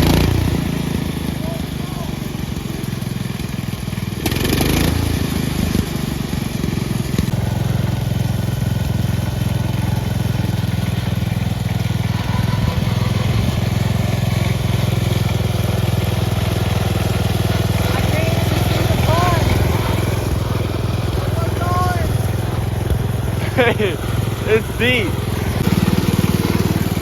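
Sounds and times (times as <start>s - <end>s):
garden tractor engine running: 0.0s - 27.0s.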